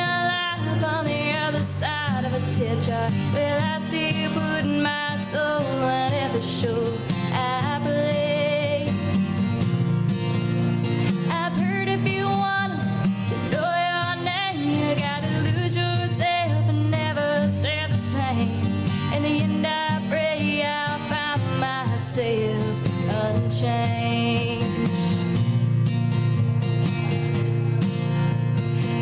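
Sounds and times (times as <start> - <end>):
woman singing country song: 0.0 - 25.7, 28.6 - 29.0
acoustic guitar strumming: 0.0 - 29.0.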